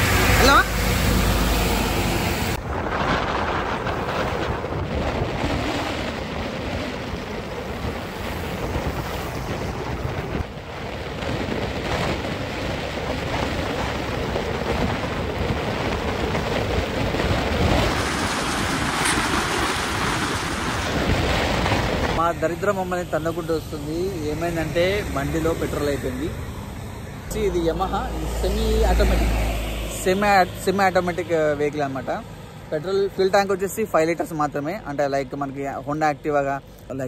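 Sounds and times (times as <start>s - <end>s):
wind rushing over microphone: 0.0s - 36.6s.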